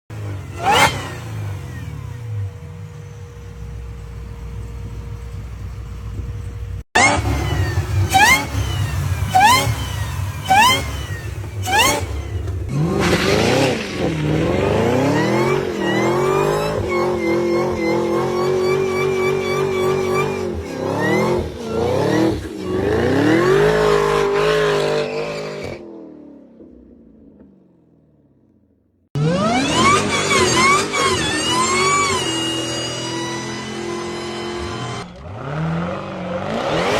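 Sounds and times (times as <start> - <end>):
car engine revving: 0.1 - 27.5, 29.2 - 36.9
supercharger whine: 0.1 - 27.6, 29.2 - 36.9.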